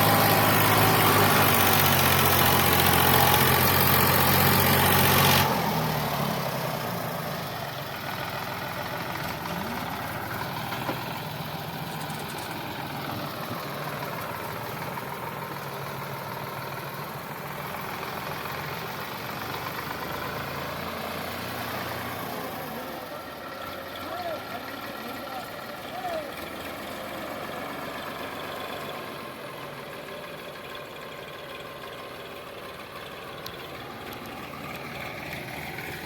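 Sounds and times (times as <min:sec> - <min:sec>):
tractor diesel engine idling: 0:00.0 - 0:36.0.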